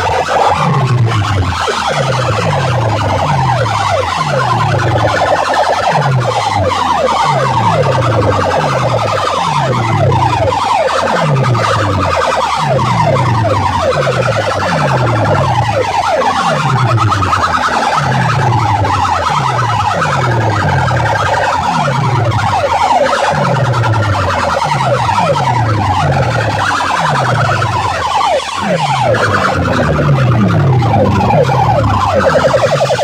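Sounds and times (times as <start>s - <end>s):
deep bass glide: 0.0s - 33.0s
siren effect through speakers: 0.0s - 33.0s.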